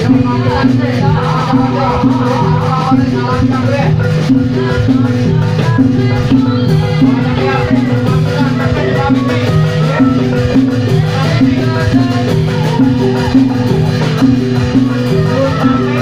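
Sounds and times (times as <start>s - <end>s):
gamelan music with drumming: 0.0s - 16.0s.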